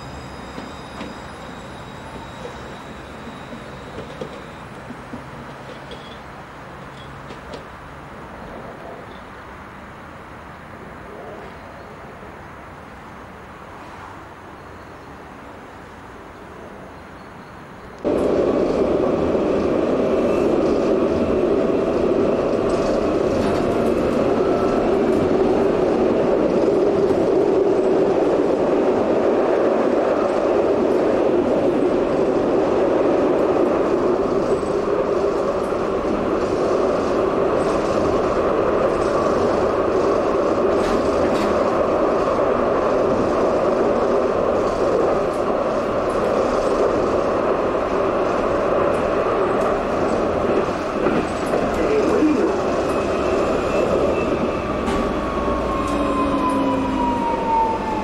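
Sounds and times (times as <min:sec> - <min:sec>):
tram wheels rumbling: 0:00.0 - 0:58.0.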